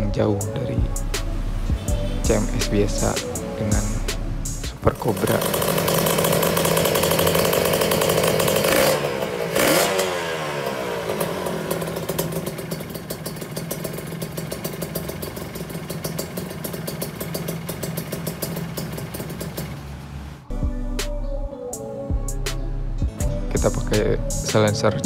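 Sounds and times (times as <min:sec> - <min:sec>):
motorcycle engine revving and idling: 0:00.0 - 0:21.2, 0:22.2 - 0:25.0.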